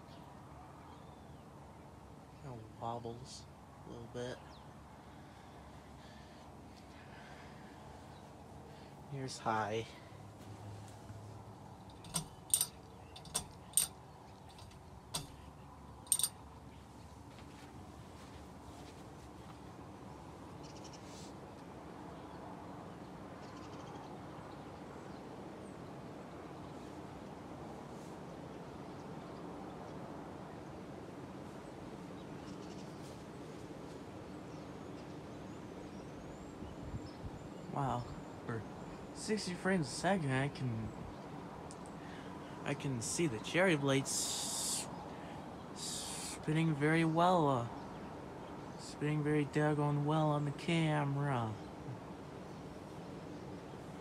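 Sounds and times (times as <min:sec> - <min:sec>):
ceiling fan humming: 0:00.0 - 0:23.4, 0:24.1 - 0:54.0.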